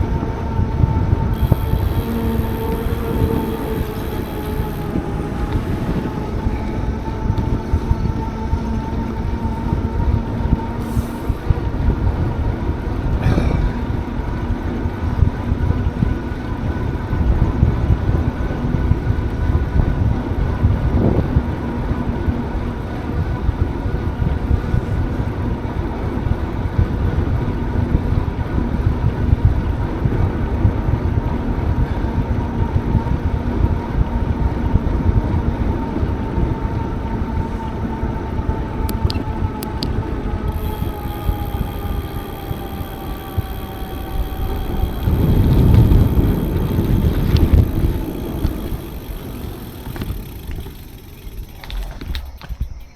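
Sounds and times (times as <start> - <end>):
bicycle tyres rolling on path: 0.0 - 52.9
faint steady hum: 0.0 - 52.9
wind buffeting microphone: 0.0 - 52.9.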